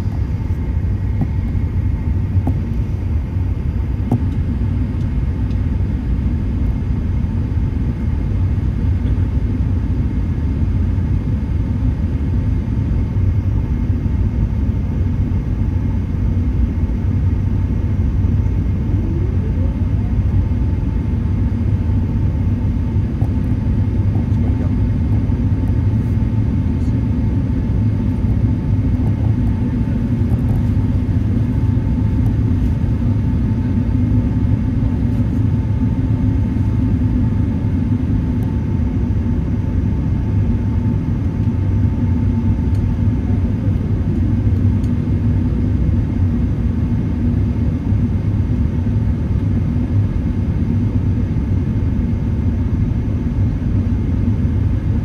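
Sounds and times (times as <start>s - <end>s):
aircraft cabin engine rumble: 0.0s - 55.0s
faint steady whine: 0.0s - 55.0s.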